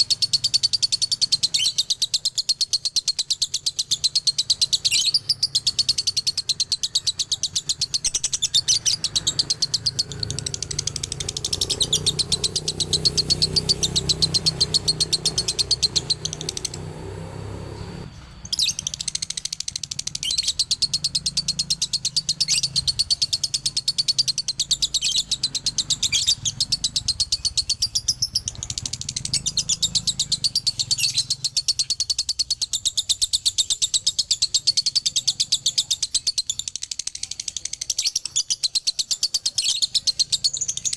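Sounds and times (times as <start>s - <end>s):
lovebird chattering chirps: 0.0s - 40.9s.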